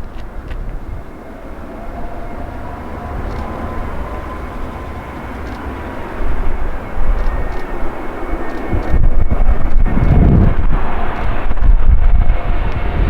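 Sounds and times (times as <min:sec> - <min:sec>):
faint jet engines whining: 0:00.0 - 0:13.0
wind buffeting microphone: 0:00.0 - 0:13.0.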